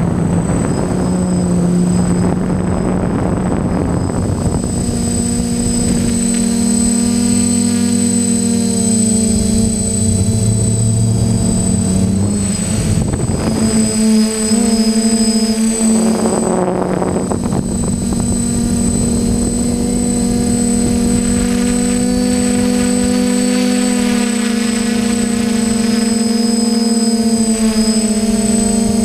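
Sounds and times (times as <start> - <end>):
drone propellers buzzing whine: 0.0 - 29.0.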